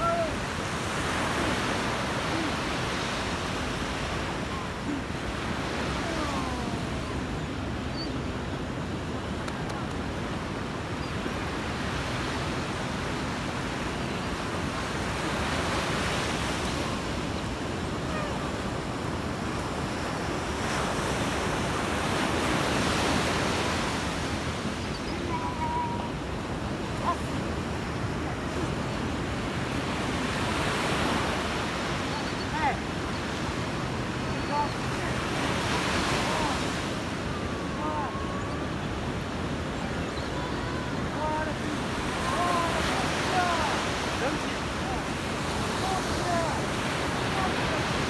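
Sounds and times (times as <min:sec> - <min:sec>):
waves breaking and washing in: 0:00.0 - 0:48.0.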